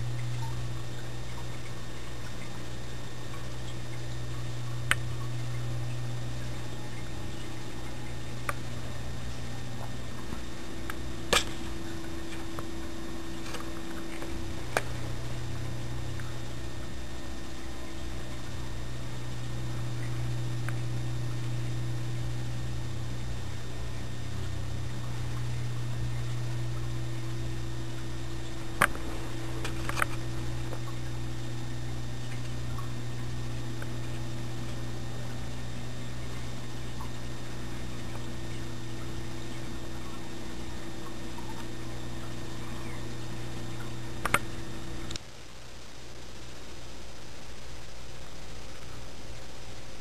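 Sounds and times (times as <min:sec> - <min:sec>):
electrical hum and hiss: 0:00.0 - 0:50.0.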